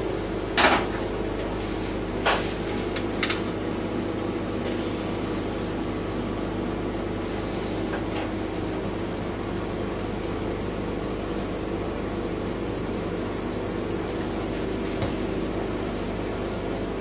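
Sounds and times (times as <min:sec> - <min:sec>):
ventilation fan humming: 0:00.0 - 0:17.0.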